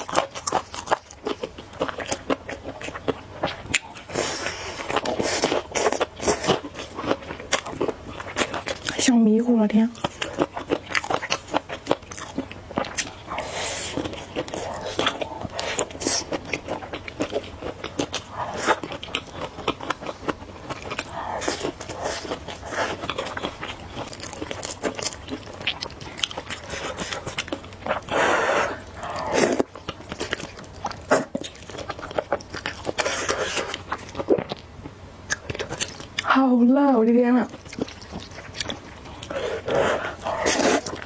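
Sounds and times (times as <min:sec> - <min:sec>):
chewing noodles: 0:00.0 - 0:41.0.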